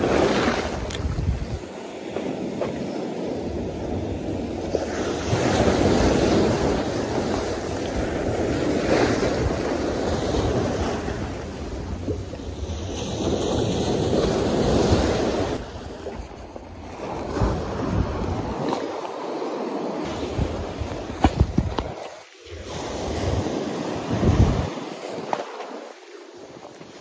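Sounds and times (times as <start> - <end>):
wind buffeting microphone: 0.0 - 19.4, 20.0 - 25.6.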